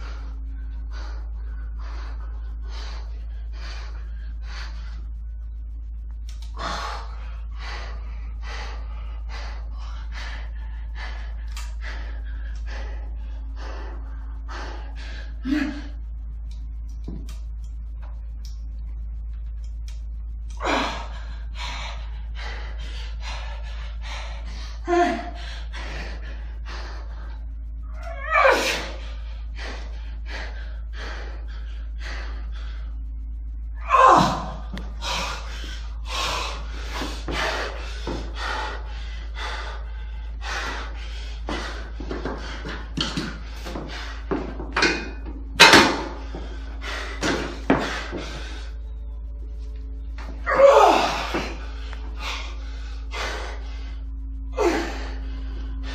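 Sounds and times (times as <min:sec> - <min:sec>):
man breathing hard: 0:00.0 - 0:16.6, 0:20.5 - 0:55.9
low hum: 0:00.0 - 0:55.9.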